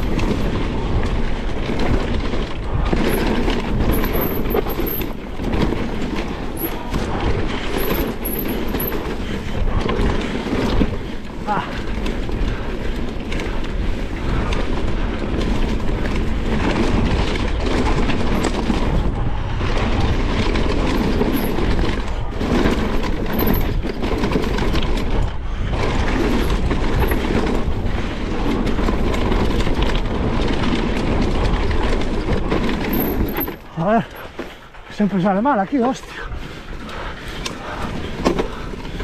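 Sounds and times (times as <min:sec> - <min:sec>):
bike rattling: 0:00.0 - 0:39.0
tyres rumbling over rocky ground: 0:00.0 - 0:39.0.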